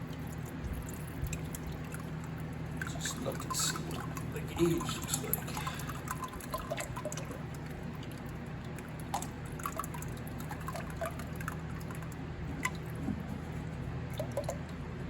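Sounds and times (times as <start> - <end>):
oil trickling and dripping: 0.0 - 15.0.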